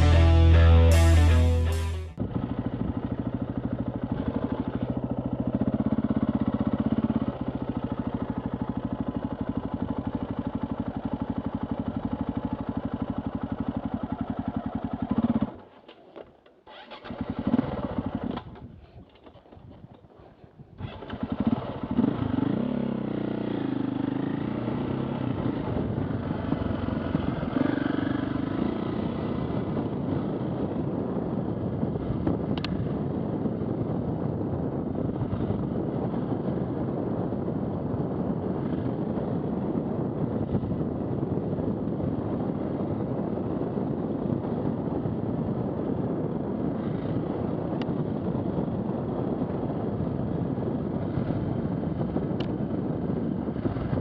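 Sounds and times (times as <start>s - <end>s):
motorbike engine running: 0.0s - 15.9s, 16.7s - 54.0s.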